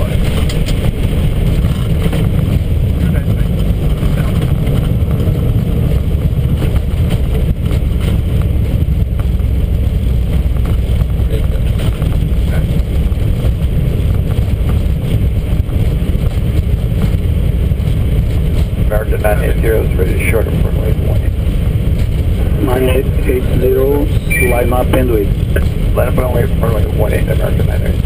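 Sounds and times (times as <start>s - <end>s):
low aircraft cockpit rumble: 0.0s - 28.0s.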